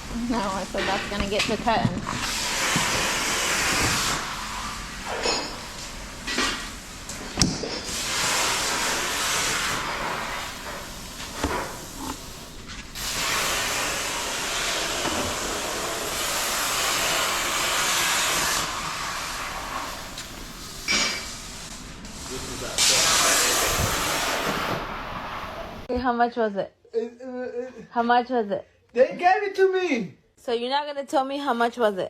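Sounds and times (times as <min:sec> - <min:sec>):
loud steady hiss: 0:00.0 - 0:25.9.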